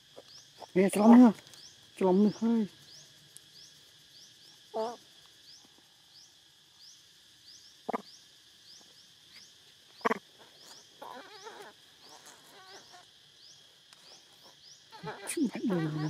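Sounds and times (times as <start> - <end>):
high rising insect chirp: 0.0 - 16.0
insect high drone: 0.0 - 16.0.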